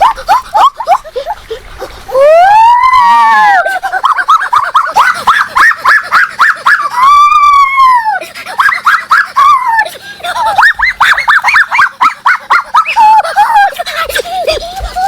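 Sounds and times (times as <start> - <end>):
animal crying out: 0.0 - 13.9.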